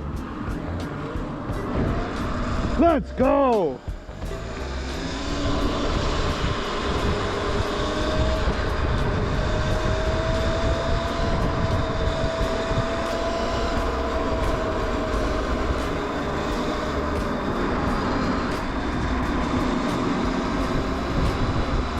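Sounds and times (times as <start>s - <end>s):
wind rumble on microphone: 0.0s - 3.2s, 3.8s - 21.9s
electric motor whine: 3.8s - 21.9s.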